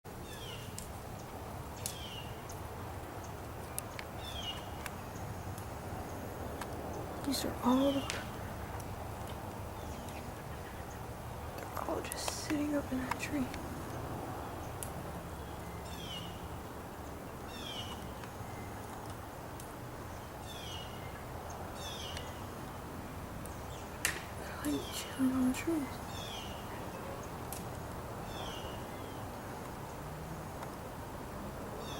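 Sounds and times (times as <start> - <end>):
small birds chirping: 0.2 - 30.0.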